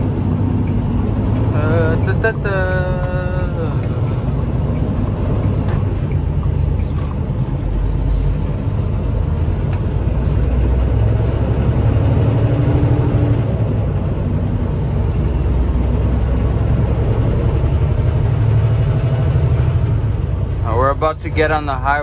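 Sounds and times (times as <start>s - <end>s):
road noise: 0.0s - 22.0s
truck diesel engine drone: 0.0s - 22.0s.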